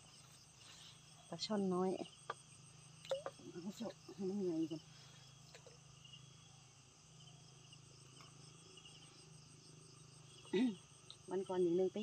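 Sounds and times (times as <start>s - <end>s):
insects chirping in trills: 0.0s - 12.0s.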